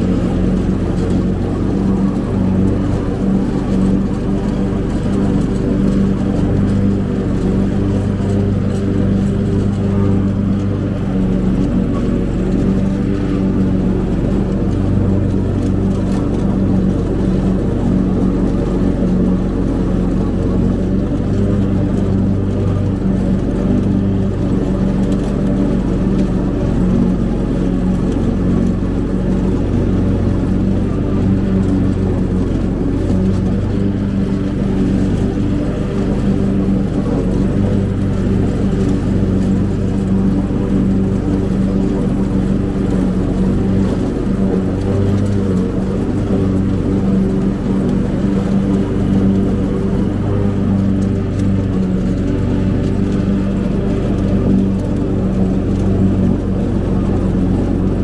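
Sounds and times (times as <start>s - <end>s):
riding mower engine running: 0.0s - 58.0s.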